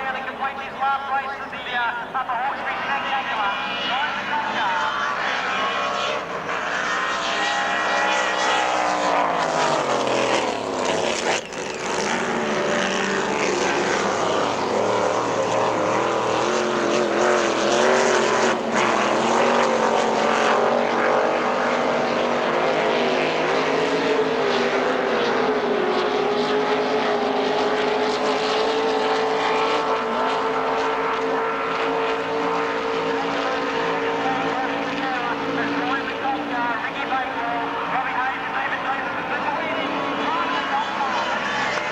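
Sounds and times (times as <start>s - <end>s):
racing powerboat engine running: 0.0s - 41.9s.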